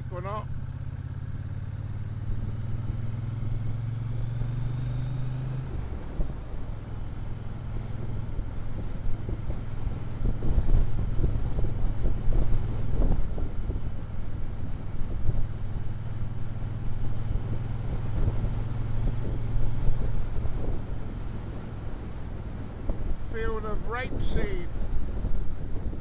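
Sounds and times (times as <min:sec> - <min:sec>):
motorcycle engine cruising: 0:00.0 - 0:26.0
wind buffeting microphone: 0:00.0 - 0:26.0.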